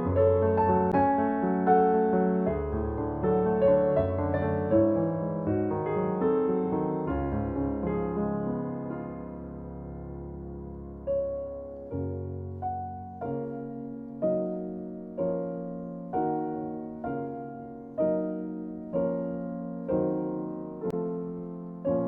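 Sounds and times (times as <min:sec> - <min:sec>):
slow gentle piano piece: 0:00.0 - 0:22.0.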